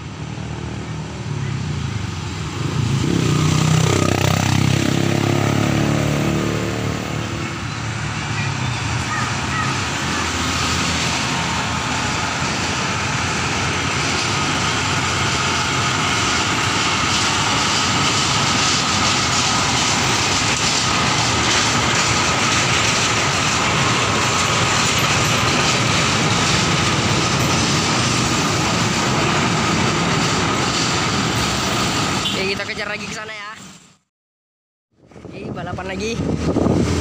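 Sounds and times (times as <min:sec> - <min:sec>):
wagons rumbling on rails: 0:00.0 - 0:33.8, 0:35.1 - 0:37.0
locomotive engine running: 0:01.1 - 0:32.2.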